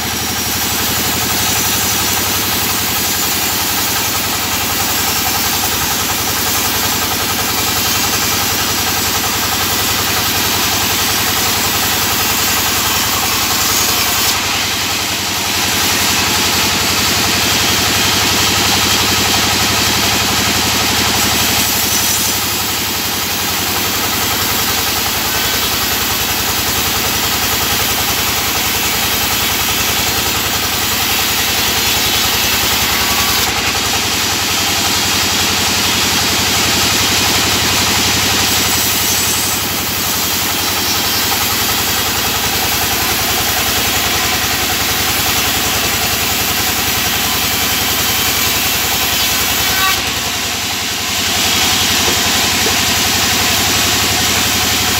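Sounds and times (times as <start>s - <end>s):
band saw cutting wood: 0.0s - 54.9s.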